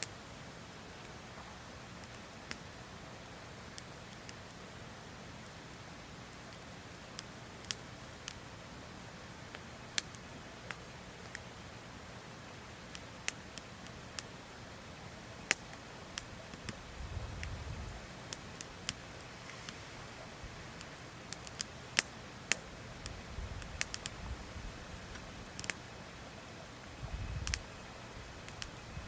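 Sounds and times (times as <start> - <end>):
campfire crackling and popping: 0.8 - 8.6, 9.4 - 29.0.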